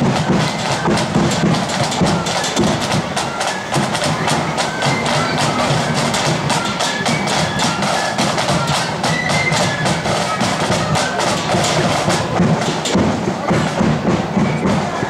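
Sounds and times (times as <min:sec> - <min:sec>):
bass drum: 0:00.0 - 0:15.0
high flute tune: 0:00.0 - 0:15.0
snare drums beating: 0:00.0 - 0:15.0.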